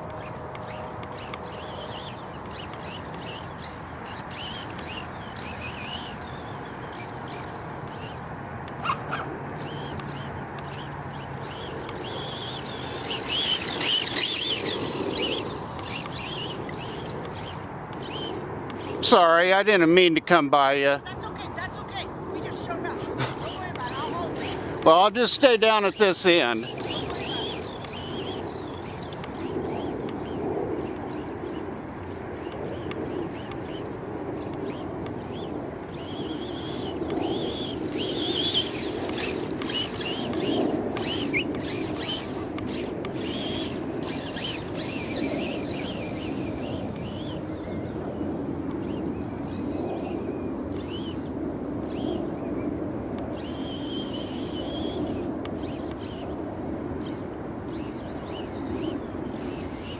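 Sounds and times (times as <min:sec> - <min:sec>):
electric toy car motor whine: 0:00.0 - 0:59.9.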